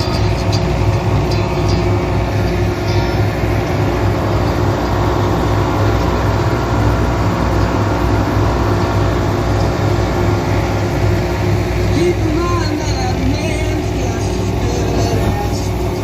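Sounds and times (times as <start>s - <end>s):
boat engine drone: 0.0s - 16.0s
rushing water noise: 0.0s - 16.0s.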